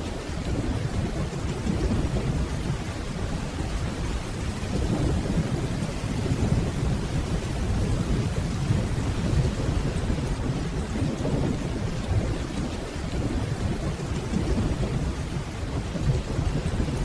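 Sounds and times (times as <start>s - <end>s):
distant thunder rumbling: 0.0s - 17.0s
steady rainfall: 0.0s - 17.0s.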